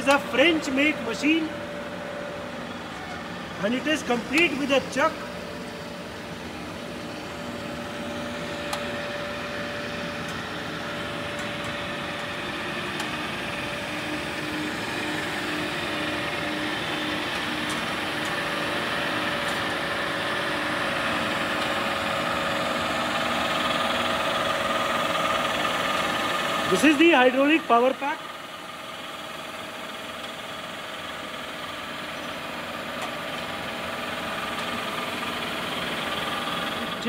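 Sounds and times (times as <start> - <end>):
grinding machine motors humming: 0.0 - 37.0.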